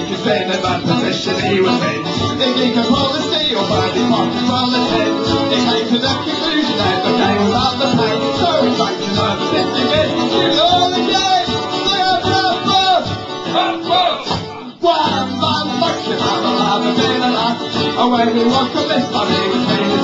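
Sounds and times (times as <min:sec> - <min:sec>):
man singing: 0:00.0 - 0:20.0
strummed acoustic strings: 0:00.0 - 0:20.0.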